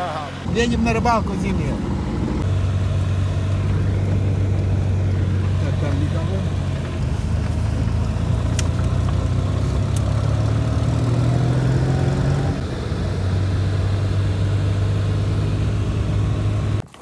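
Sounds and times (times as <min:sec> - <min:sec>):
car engine accelerating: 0:00.0 - 0:16.8
road noise: 0:00.0 - 0:17.0.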